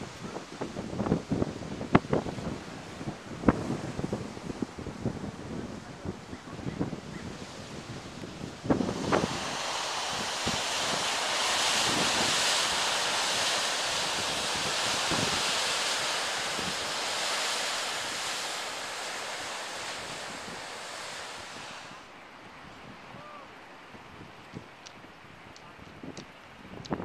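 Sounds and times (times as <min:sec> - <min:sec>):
surf washing over rocks: 0:00.0 - 0:24.9.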